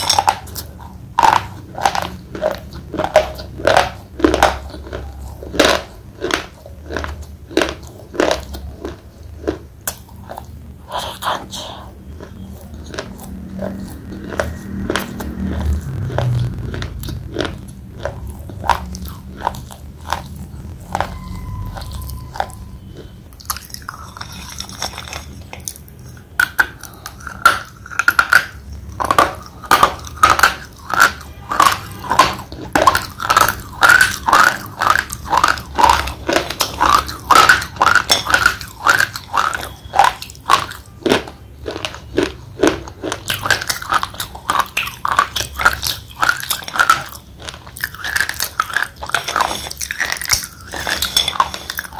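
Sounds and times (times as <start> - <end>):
slate pencil crunching in teeth: 0.0 - 51.9.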